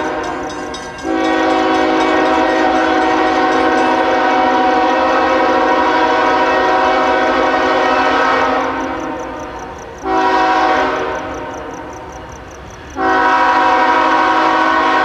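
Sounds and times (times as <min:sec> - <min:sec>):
diesel locomotive horn blast: 0:00.0 - 0:11.9, 0:12.9 - 0:15.0.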